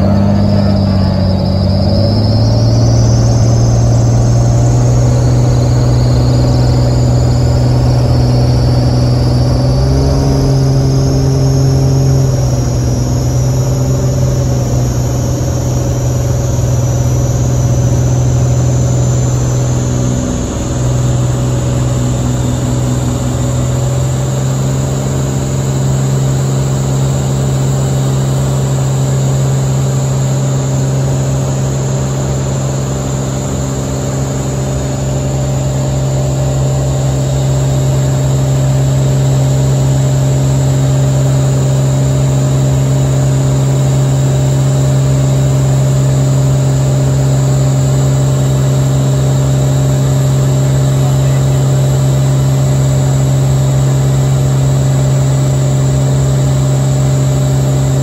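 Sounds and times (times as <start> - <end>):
faint high whine: 0.0 - 58.0
propeller aircraft engine drone: 0.0 - 58.0.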